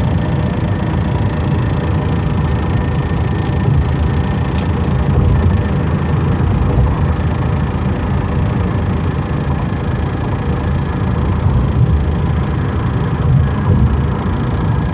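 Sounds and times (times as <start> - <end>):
car engine and road rumble: 0.0 - 14.9.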